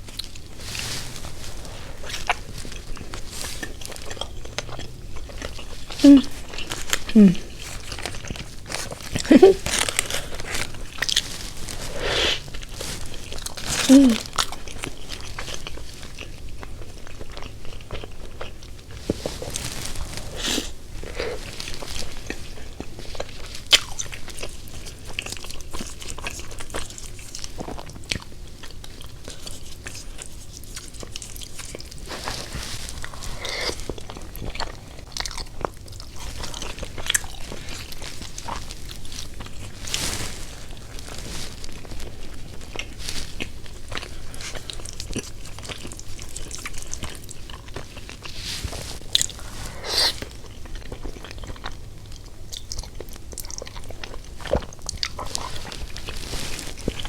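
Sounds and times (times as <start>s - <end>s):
food crunches: 0.0s - 57.0s
person biting and chewing food: 1.6s - 39.8s, 42.7s - 51.8s.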